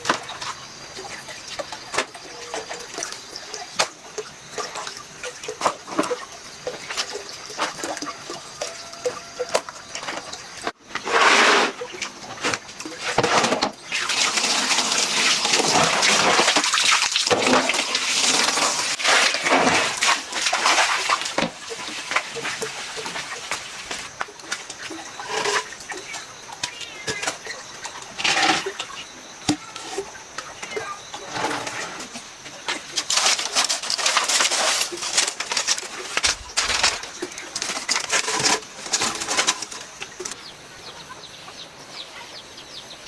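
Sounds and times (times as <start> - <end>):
water splashing and sloshing: 0.0 - 41.2.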